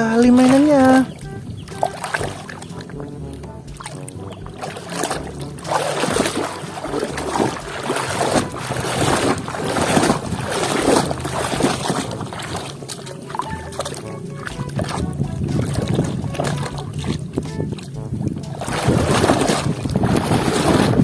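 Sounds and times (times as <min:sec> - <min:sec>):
water splashing: 0:00.0 - 0:21.0.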